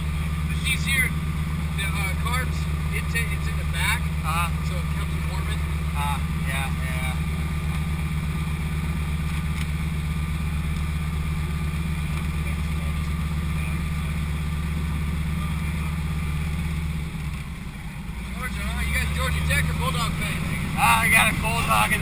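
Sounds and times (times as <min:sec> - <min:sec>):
plane engine and propeller: 0:00.0 - 0:22.0.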